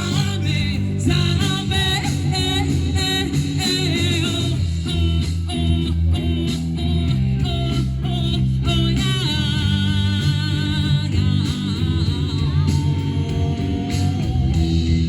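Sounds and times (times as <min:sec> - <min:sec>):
bass guitar: 0:00.0 - 0:15.0.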